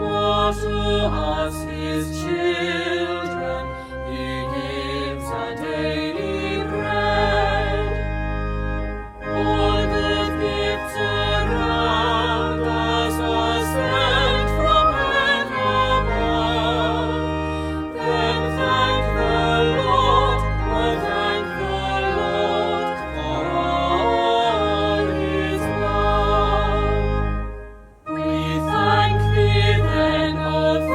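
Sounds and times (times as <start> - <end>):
choir singing a hymn: 0.0 - 30.9
organ: 0.0 - 30.9.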